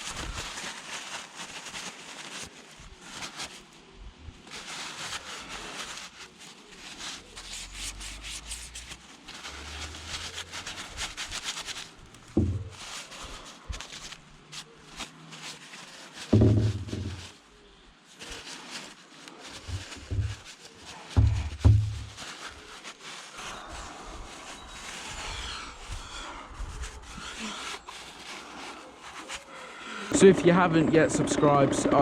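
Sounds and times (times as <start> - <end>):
hands rubbing and scraping parts: 0.0 - 32.0.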